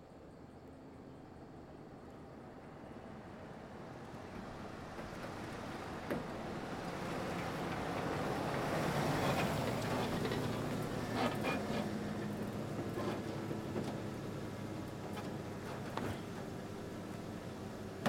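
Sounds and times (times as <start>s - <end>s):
truck engine and tyre noise: 0.0s - 18.0s.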